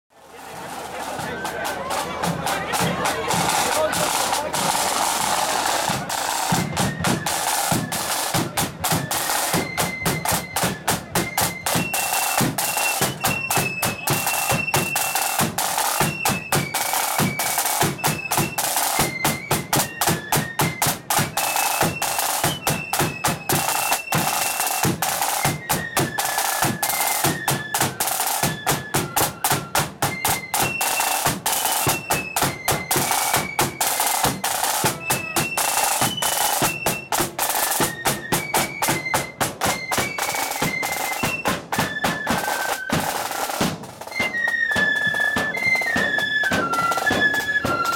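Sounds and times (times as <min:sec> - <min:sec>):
flute melody: 0:00.3 - 0:47.9
snare drum rhythms: 0:00.4 - 0:47.9.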